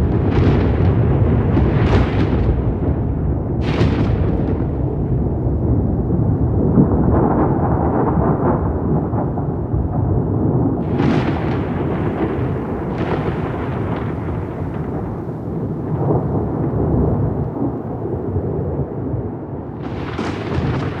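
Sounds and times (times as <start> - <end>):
crackling thunder peals: 0.0 - 21.0
thunder rumbling: 0.0 - 21.0.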